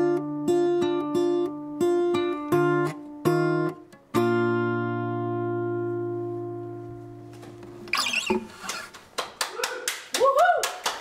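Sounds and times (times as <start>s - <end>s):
acoustic guitar strumming: 0.0s - 8.9s.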